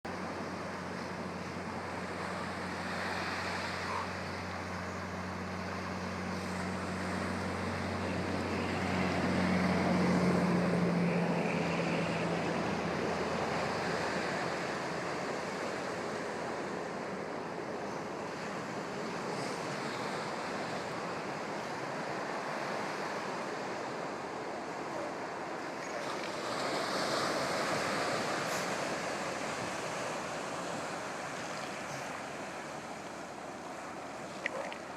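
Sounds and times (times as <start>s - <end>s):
ocean surf washing onto beach: 0.1s - 34.9s.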